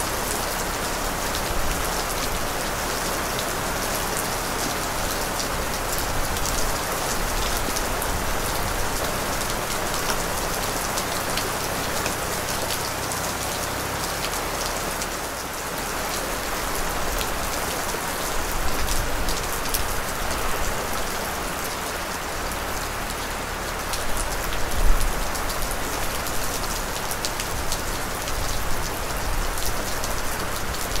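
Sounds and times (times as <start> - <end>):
rain pattering on a surface: 0.0 - 31.0.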